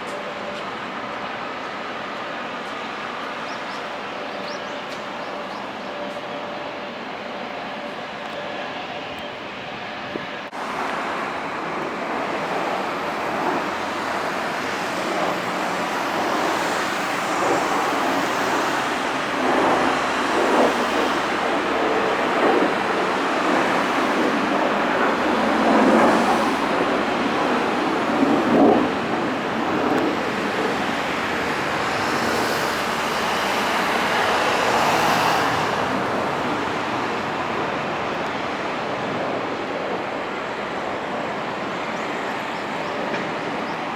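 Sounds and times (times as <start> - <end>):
fighter jet engines roaring: 0.0 - 43.9.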